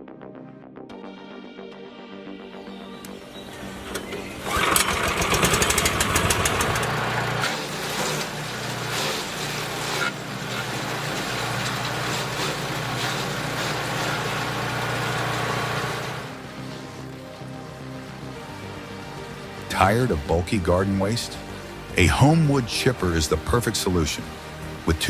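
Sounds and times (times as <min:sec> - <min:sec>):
wood-processing machine engine rattling: 0:03.4 - 0:25.0.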